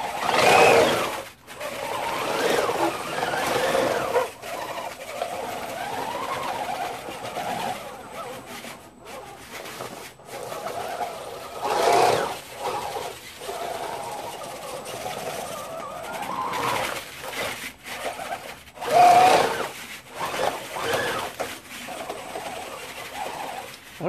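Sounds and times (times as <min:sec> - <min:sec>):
electric motor whine: 0:00.0 - 0:23.7.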